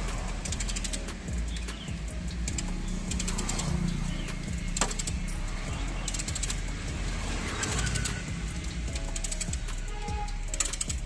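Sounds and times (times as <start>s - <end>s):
rapid metallic clicking: 0.0s - 11.0s
steady low hum: 0.0s - 11.0s.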